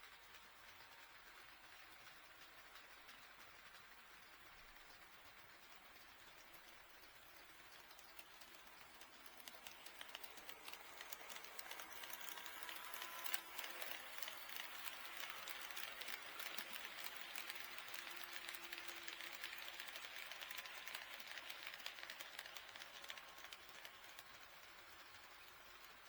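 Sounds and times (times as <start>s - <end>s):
model train wheels clicking: 0.0s - 26.0s.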